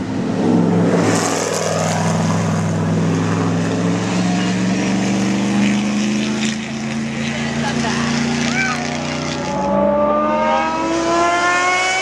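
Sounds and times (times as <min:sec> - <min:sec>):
racing car engine running hard: 0:00.0 - 0:12.0.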